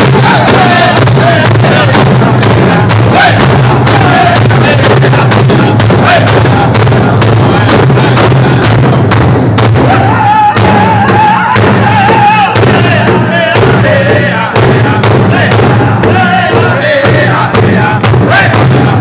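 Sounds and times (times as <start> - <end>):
men singing in high voices: 0.0 - 8.9, 9.8 - 19.0
large drum beating: 0.0 - 19.0.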